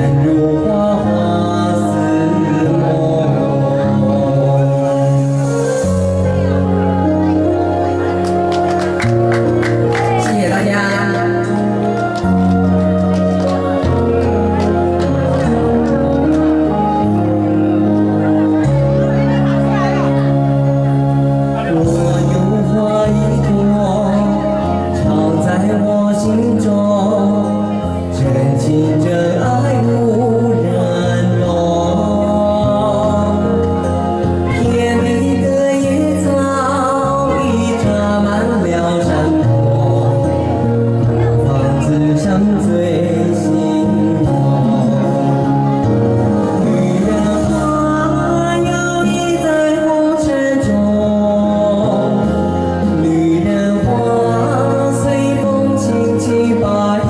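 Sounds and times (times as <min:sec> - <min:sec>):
amplified backing music: 0:00.0 - 0:57.0
man singing into a microphone: 0:00.0 - 0:57.0.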